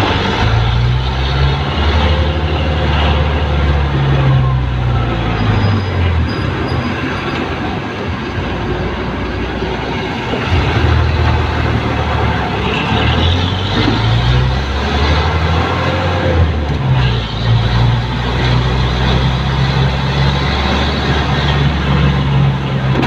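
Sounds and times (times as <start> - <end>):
diesel engine droning: 0.0 - 23.0
road noise: 0.0 - 23.0.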